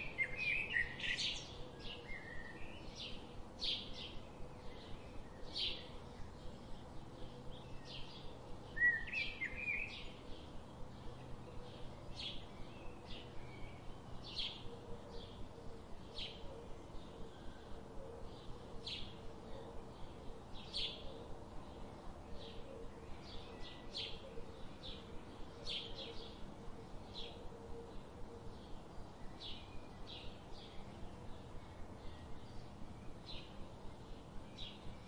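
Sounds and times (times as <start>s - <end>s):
faint steady hum: 0.0s - 35.0s
songbirds chirping: 0.0s - 35.0s.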